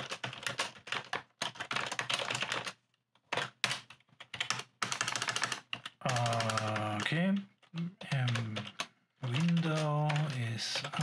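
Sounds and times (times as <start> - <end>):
keyboard typing: 0.0 - 11.0.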